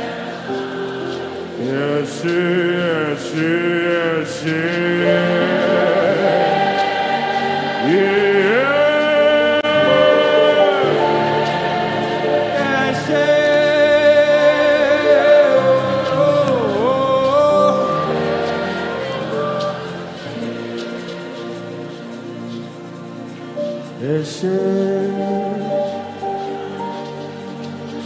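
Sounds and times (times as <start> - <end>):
choir of voices: 0.0 - 28.0
person singing long notes: 0.0 - 28.0
sustained chords: 0.0 - 28.0.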